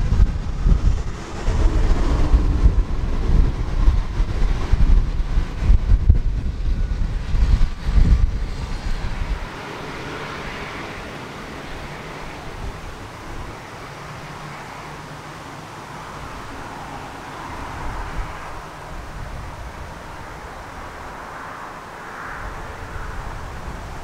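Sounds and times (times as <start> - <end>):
turboprop engine whine: 0.0 - 24.0
wind rumbling on microphone: 0.0 - 24.0.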